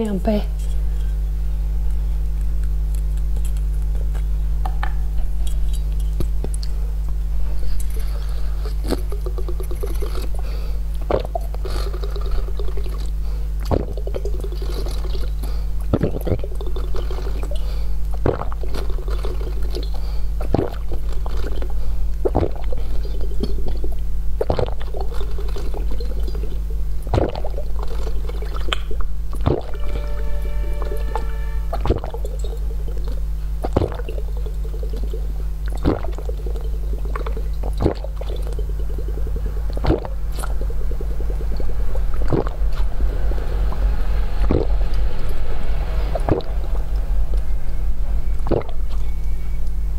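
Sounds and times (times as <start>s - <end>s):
wet gulping: 2.0s - 29.8s, 31.7s - 43.0s, 43.7s - 44.7s, 46.1s - 46.5s, 48.3s - 49.6s.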